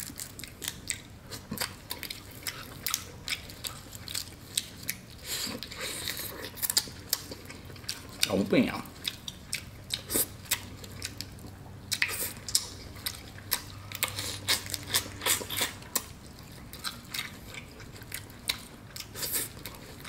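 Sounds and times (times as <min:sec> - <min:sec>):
wet chewing and smacking: 0:00.0 - 0:20.0.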